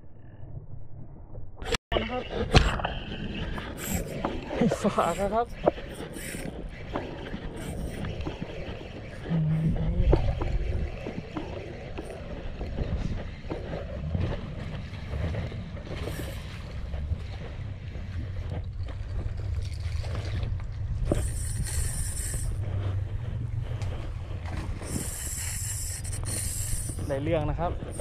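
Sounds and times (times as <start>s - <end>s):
wind noise on microphone: 1.6s - 28.0s
motor droning: 1.9s - 28.0s.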